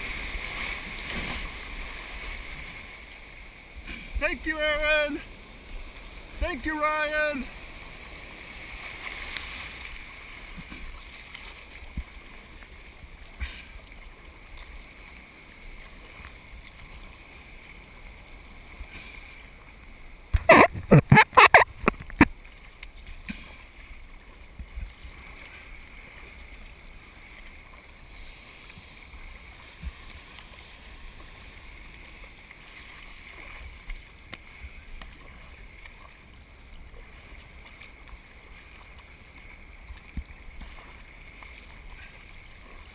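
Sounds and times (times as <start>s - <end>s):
water washing around kayak: 0.0s - 42.9s.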